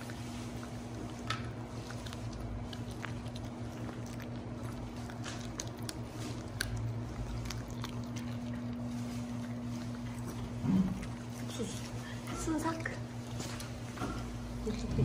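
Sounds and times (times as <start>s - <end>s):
dog chewing treat: 0.0s - 15.0s
steady low hum: 0.0s - 15.0s.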